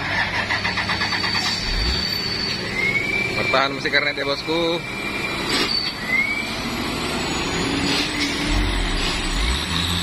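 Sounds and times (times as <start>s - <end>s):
diesel truck engine under load: 0.0s - 10.0s.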